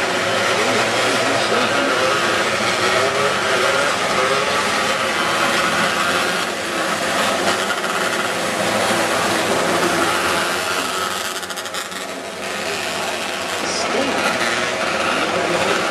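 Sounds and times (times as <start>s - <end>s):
high-revving race car engines: 0.0s - 15.9s.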